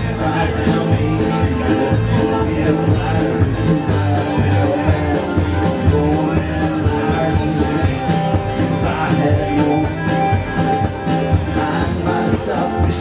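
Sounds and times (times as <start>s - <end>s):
bass: 0.0s - 13.0s
bluegrass band playing: 0.0s - 13.0s
strummed accompaniment: 0.0s - 13.0s.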